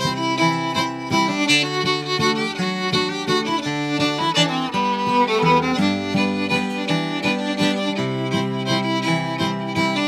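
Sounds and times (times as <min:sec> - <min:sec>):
fiddle playing waltz melody: 0:00.0 - 0:10.0
plucked guitar chords: 0:00.0 - 0:10.0.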